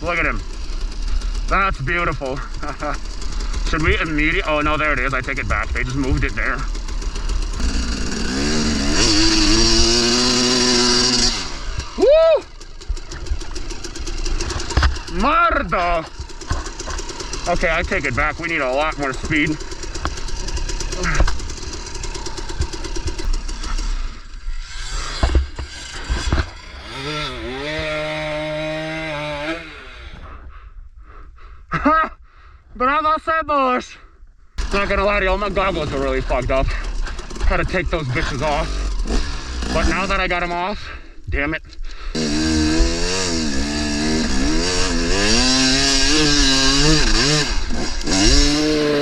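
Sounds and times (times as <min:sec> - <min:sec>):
dirt bike engine revving: 0:00.0 - 0:30.3, 0:34.6 - 0:41.0, 0:41.8 - 0:49.0.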